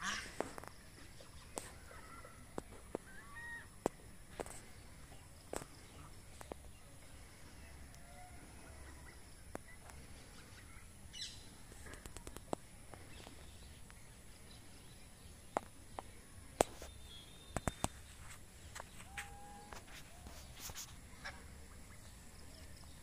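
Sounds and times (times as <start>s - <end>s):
faint bird chirps: 4.4s - 23.0s.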